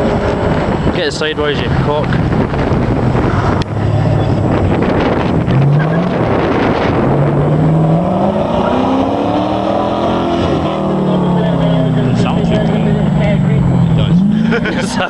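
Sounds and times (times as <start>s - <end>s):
car engine revving hard: 1.6s - 15.0s.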